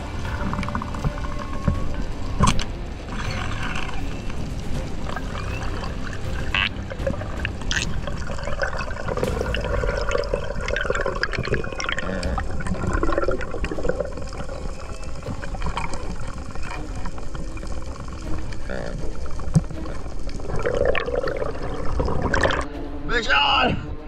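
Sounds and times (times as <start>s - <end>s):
underwater rumble of moving water: 0.0s - 22.7s
water gurgling and bubbling: 0.0s - 22.7s.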